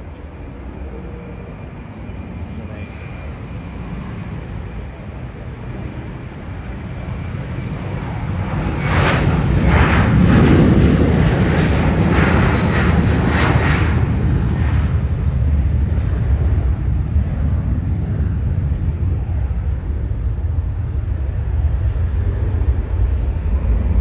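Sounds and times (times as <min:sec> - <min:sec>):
jet engines at takeoff thrust: 0:00.0 - 0:24.0.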